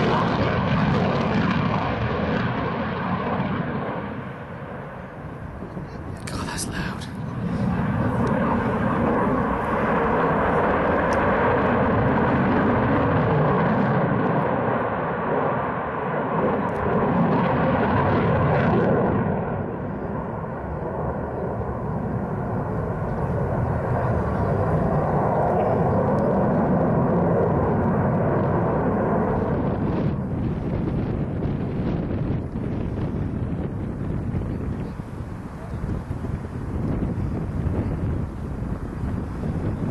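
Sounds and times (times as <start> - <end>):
faint jet whine: 0.0 - 39.9
jet engines roaring: 0.0 - 39.9.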